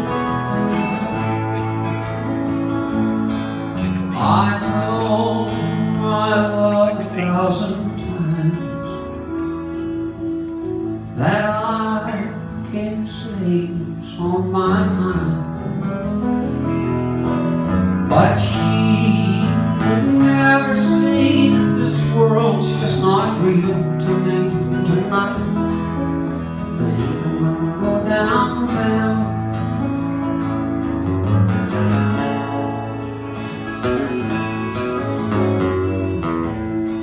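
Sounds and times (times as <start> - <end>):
acoustic guitars strumming: 0.0 - 37.0
band playing country-folk song: 0.0 - 37.0.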